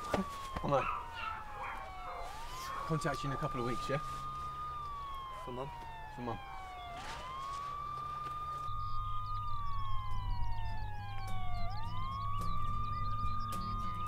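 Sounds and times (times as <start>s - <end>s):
low steady hum: 0.0s - 14.0s
police siren wailing: 0.0s - 14.0s.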